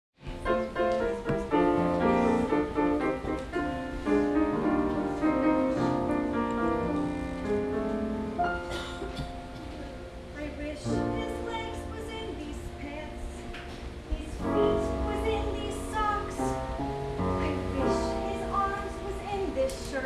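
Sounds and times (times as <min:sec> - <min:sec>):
solo piano: 0:00.2 - 0:20.0.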